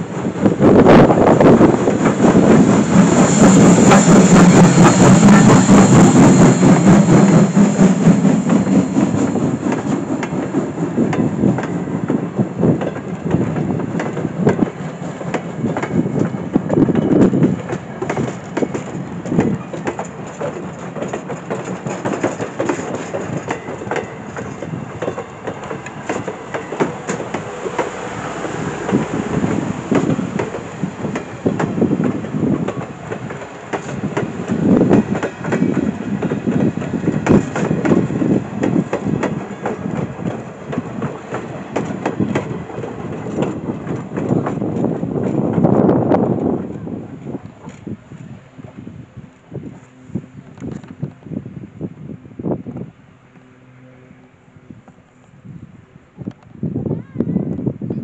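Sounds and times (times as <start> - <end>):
coach wheels clacking over rail joints: 0.0 - 48.0
heavy low rumble of train: 0.0 - 58.0.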